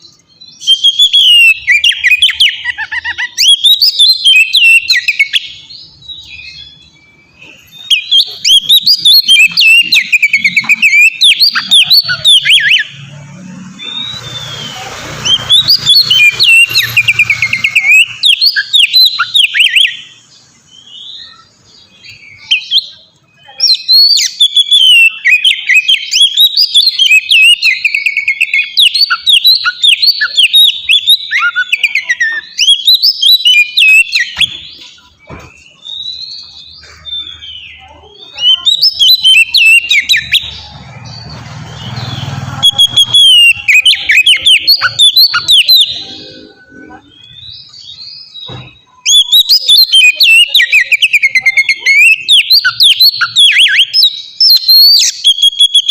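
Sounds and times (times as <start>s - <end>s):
magpie-robin singing whistled song: 0.0s - 13.1s, 13.7s - 55.9s.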